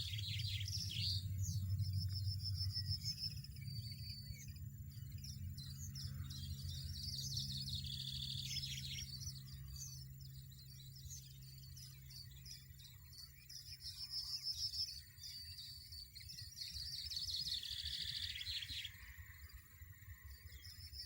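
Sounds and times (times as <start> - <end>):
goldfinch twittering: 0.0 - 21.0.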